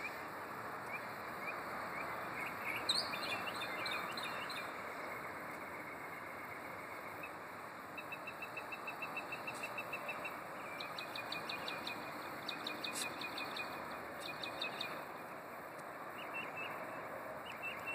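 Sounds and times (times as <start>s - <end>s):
steady background hiss: 0.0s - 17.9s.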